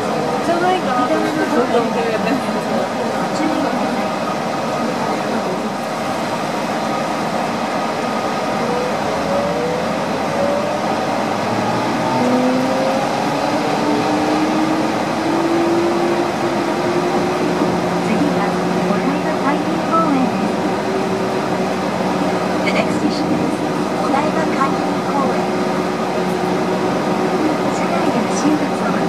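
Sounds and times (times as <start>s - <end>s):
train whir with motor whine: 0.0s - 29.0s.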